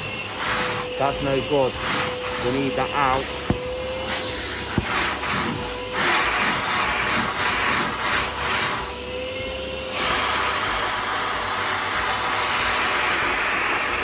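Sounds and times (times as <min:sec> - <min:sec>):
shop vac sucking carpet: 0:00.0 - 0:14.0.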